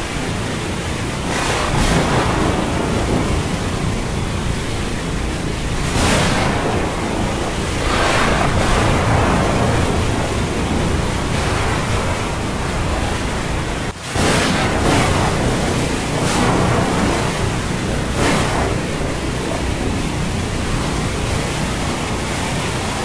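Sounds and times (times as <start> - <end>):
storm rushing: 0.0 - 23.0.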